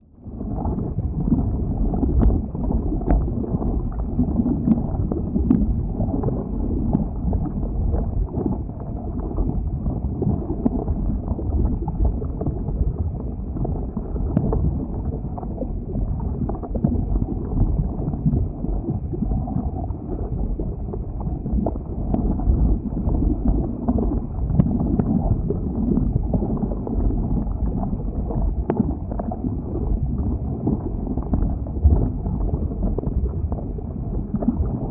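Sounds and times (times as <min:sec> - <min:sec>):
low rumble of flowing lava: 0:00.0 - 0:34.9.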